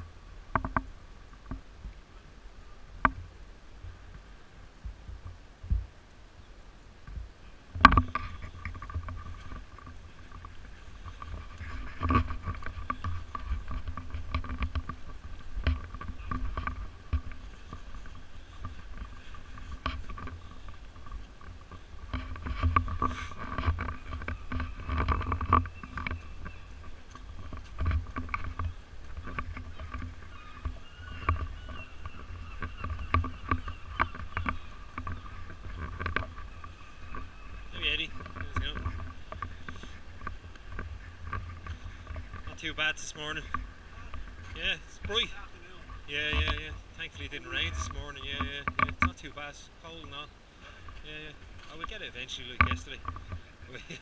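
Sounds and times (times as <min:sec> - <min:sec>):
low wind rumble: 0:00.0 - 0:54.0.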